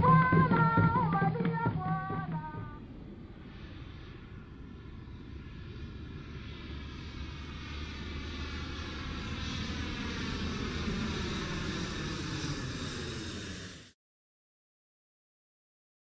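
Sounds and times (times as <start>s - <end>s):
droning engine: 0.0s - 14.0s.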